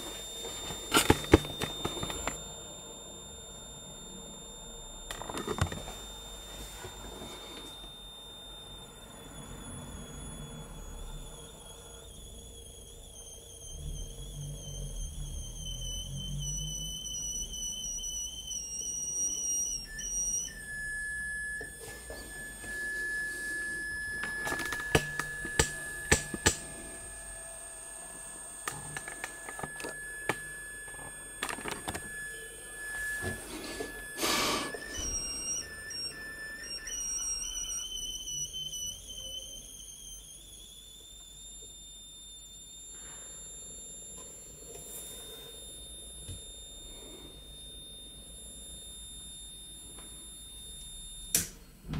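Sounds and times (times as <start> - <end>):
high-pitched electronic whine: 0.0 - 51.9.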